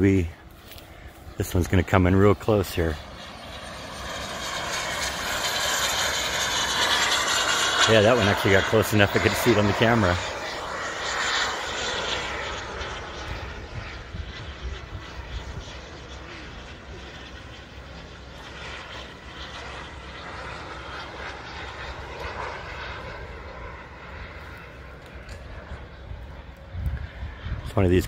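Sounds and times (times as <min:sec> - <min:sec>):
model jet rushing past: 0:00.0 - 0:28.0.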